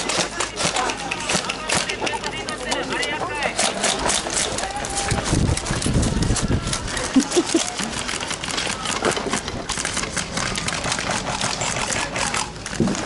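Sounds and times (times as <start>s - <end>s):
airsoft guns firing in bursts: 0.0s - 2.2s, 3.5s - 5.8s, 7.0s - 13.0s.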